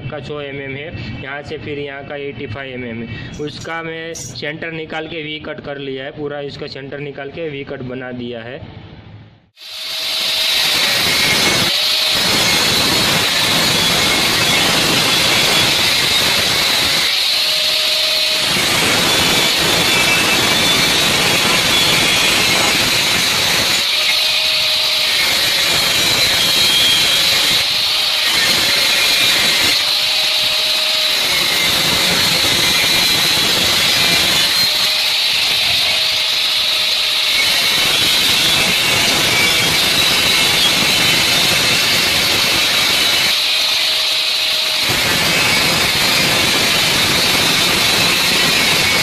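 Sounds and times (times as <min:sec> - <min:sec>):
angle grinder cutting steel: 0:09.6 - 0:49.0.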